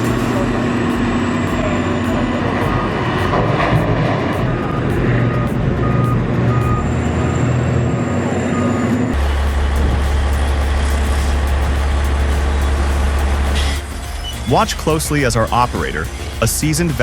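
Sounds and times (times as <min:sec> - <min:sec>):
heavy construction machine running: 0:00.0 - 0:17.0
heavy low engine drone: 0:00.0 - 0:17.0
reversing alarm beeping: 0:00.0 - 0:17.0.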